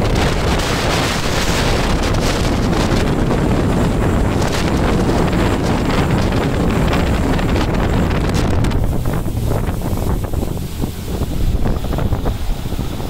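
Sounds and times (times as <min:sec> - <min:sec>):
outboard motors rushing: 0:00.0 - 0:13.0
water rushing: 0:00.0 - 0:13.0
wind buffeting microphone: 0:00.0 - 0:13.0.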